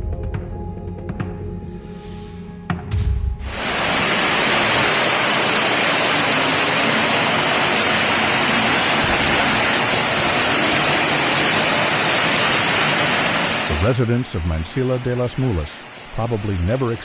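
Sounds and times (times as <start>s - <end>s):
running water: 3.0s - 17.0s
torrential rain: 3.1s - 17.0s.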